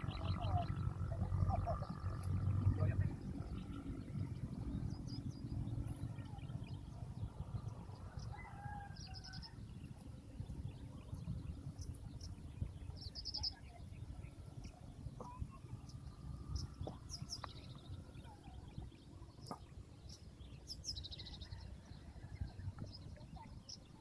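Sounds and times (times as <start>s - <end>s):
constant low rumble: 0.0s - 24.0s
small birds chirping: 0.0s - 24.0s.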